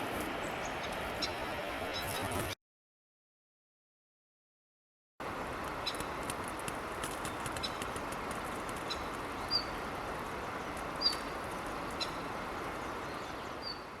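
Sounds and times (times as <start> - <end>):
steady rushing outdoor noise: 0.0 - 2.6, 5.2 - 14.0.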